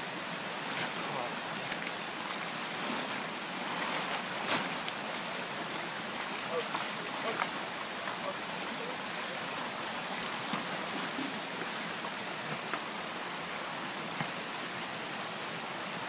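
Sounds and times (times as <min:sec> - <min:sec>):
small stream rushing: 0:00.0 - 0:16.0.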